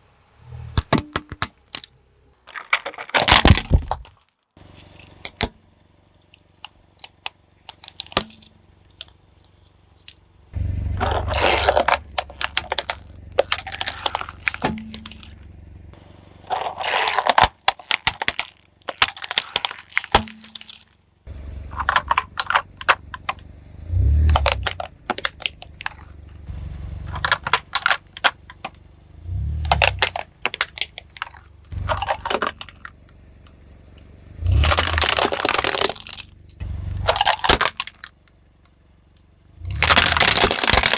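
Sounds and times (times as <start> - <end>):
low engine rumble: 0.0 - 40.9
plastic toys crunching under tyres: 0.4 - 5.6, 6.2 - 40.9.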